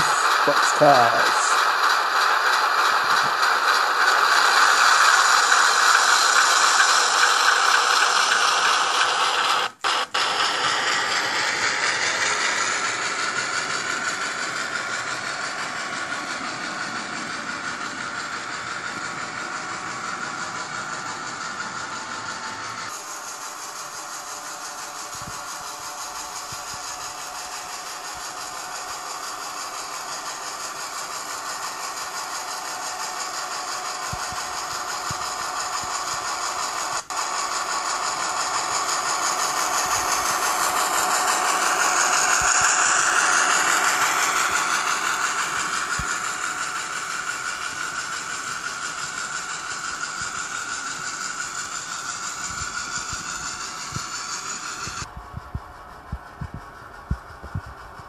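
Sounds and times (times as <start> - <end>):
light wheel clatter: 0.0 - 58.0
model train diesel engine sound: 0.0 - 58.0.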